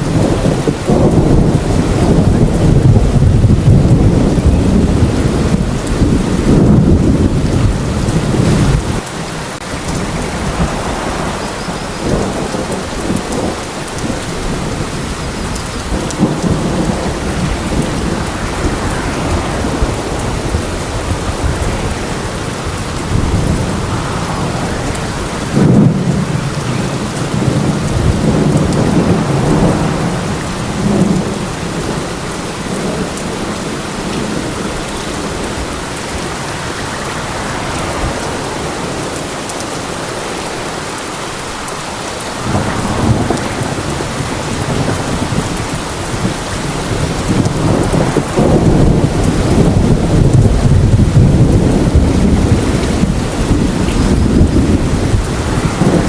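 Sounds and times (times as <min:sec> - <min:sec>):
sharp thunderclap: 0:00.0 - 0:09.0, 0:09.6 - 0:35.8, 0:42.4 - 0:56.0
heavy rain: 0:00.0 - 0:56.0
thunder rumbling: 0:00.0 - 0:56.0.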